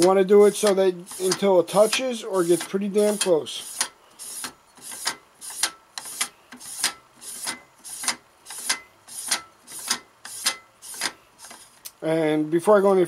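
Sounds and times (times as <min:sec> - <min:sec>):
rasping threaded part turning: 0:00.0 - 0:11.9.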